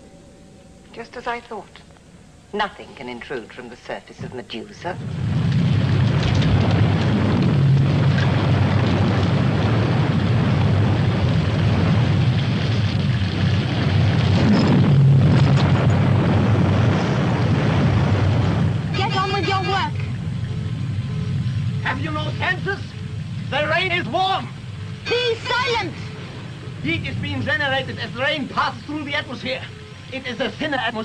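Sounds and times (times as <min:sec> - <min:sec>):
torrential rain: 0:00.8 - 0:31.0.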